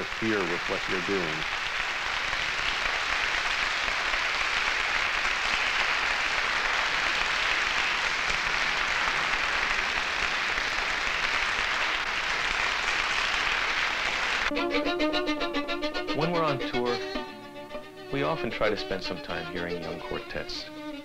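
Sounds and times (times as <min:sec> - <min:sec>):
audience applauding: 0:00.0 - 0:15.1, 0:15.8 - 0:17.4, 0:18.2 - 0:20.6.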